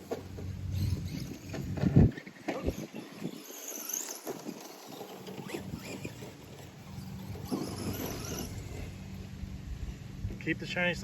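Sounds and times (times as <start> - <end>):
electric motor whining: 0.0 - 9.5.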